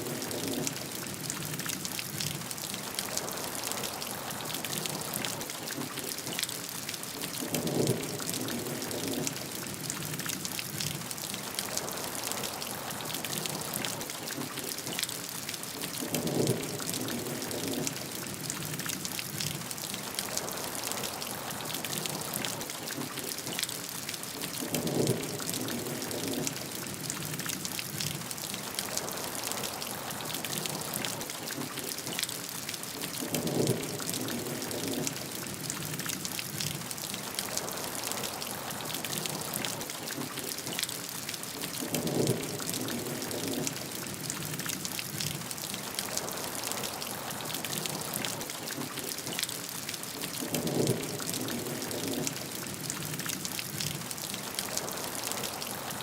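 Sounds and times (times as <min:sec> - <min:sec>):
heavy rain patter: 0:00.0 - 0:56.0.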